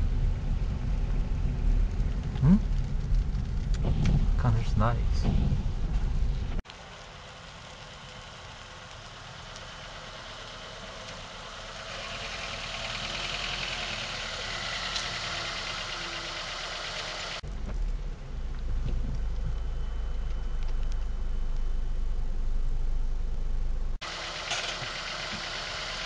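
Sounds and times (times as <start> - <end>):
car engine and tyres hissing: 0.0 - 26.0
car engine idling inside cabin: 0.0 - 26.0.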